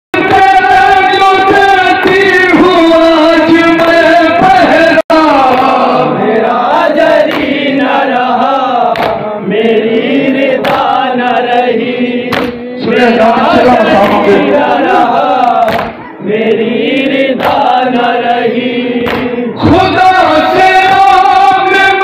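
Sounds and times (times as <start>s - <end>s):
men chanting into microphones: 0.2s - 22.0s.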